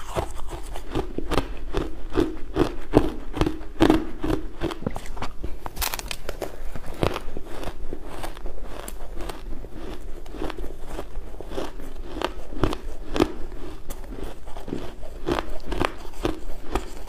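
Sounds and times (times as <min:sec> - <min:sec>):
chewing crushed ice: 0:00.0 - 0:17.0.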